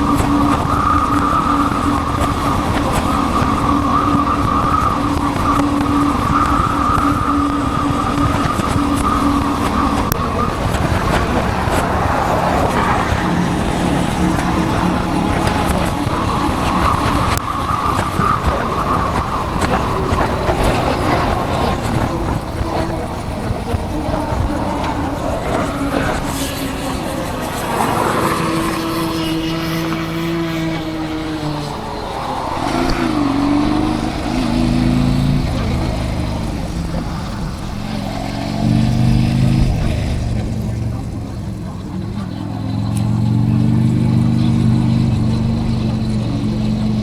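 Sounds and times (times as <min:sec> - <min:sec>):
motorcycle engine running: 0:00.0 - 0:47.0
road and wind noise: 0:00.0 - 0:47.0.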